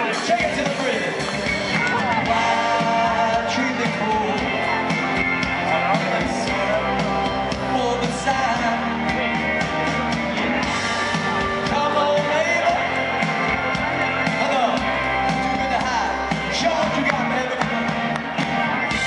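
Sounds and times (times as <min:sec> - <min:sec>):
male lead singer: 0:00.0 - 0:19.0
rock band playing live: 0:00.0 - 0:19.0.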